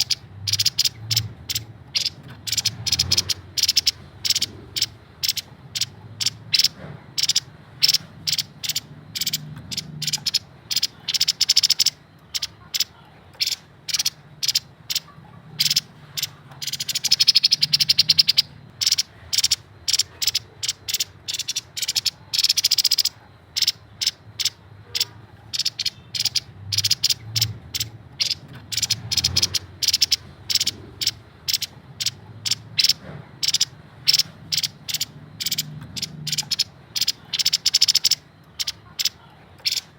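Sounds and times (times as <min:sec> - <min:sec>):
bird rattling trills: 0:00.0 - 0:39.9
bird singing sharp high chips: 0:00.0 - 0:39.9.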